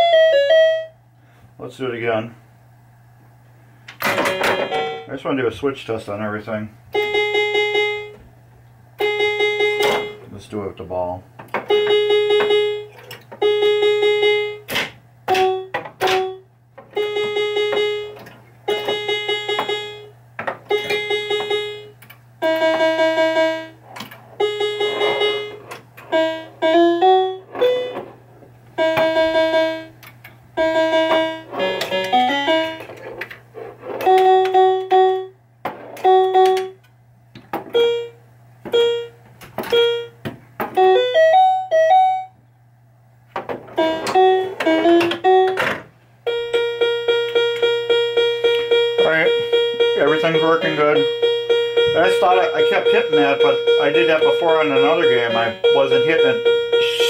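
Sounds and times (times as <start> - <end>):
pinball electronic beeping: 0.0 - 1.0, 4.0 - 5.1, 6.9 - 8.2, 9.0 - 10.2, 11.5 - 33.2, 33.8 - 36.8, 37.5 - 42.4, 43.4 - 57.0
faint steady hum: 0.0 - 57.0.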